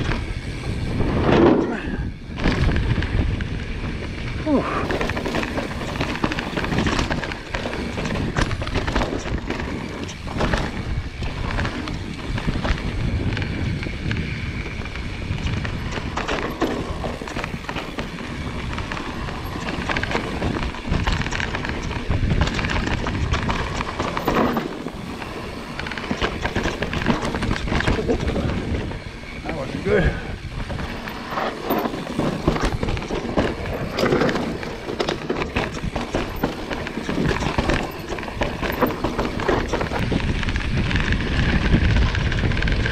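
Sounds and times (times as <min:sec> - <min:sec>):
bike knocking and rattling: 0:00.0 - 0:42.9
tyre and wind noise: 0:00.0 - 0:42.9.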